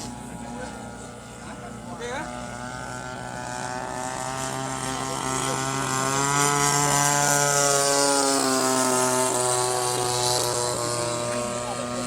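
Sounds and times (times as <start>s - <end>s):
model airplane motor buzzing: 0.0s - 12.0s.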